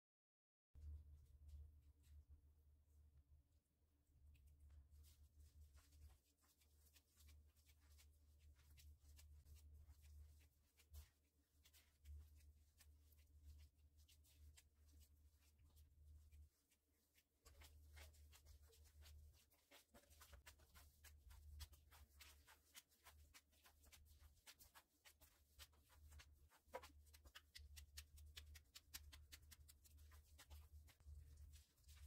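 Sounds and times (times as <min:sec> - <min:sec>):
hands kneading dough: 0:04.9 - 0:32.0.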